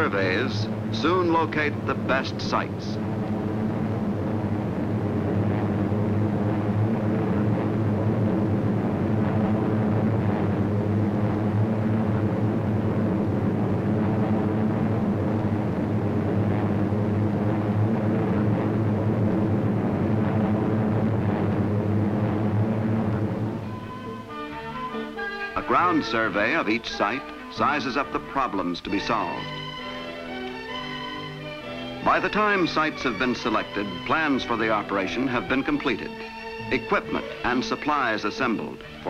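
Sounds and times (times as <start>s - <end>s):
seaplane engine drone: 0.0s - 39.0s.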